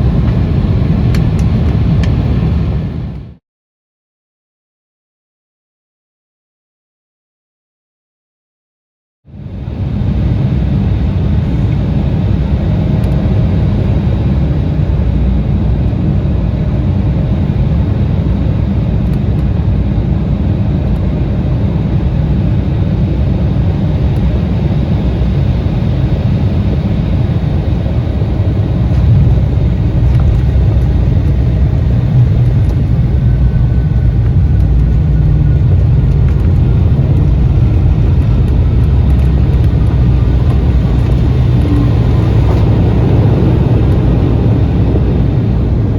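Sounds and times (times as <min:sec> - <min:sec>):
jet engine and airflow rumble: 0:00.0 - 0:03.4, 0:09.3 - 0:45.9.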